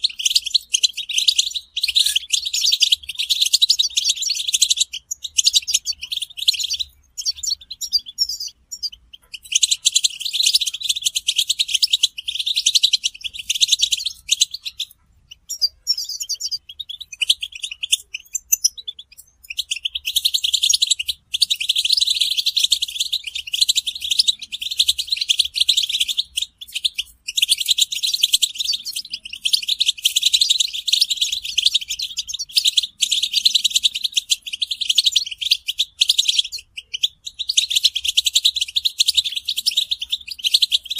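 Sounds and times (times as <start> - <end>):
goldfinches twittering: 0.0 - 40.9.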